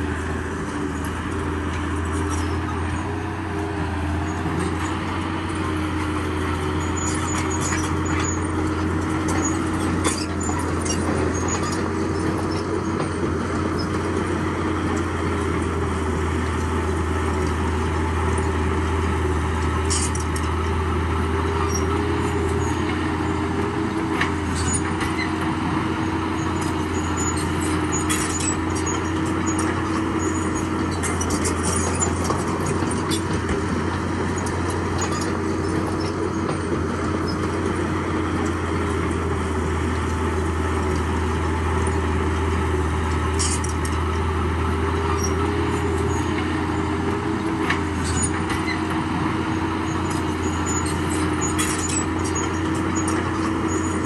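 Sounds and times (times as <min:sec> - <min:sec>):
bulldozer engine drone: 0:00.0 - 0:54.0.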